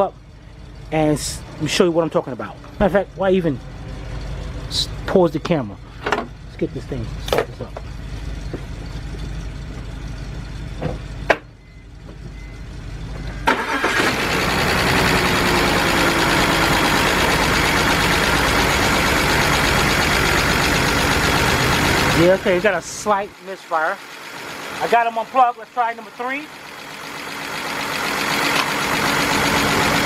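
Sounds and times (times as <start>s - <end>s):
car engine starting and idling: 0.0s - 30.0s.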